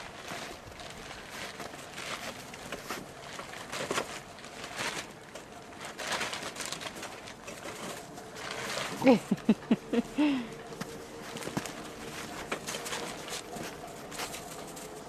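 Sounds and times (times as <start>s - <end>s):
puppies scuffling and running: 0.0s - 9.4s, 10.6s - 15.0s.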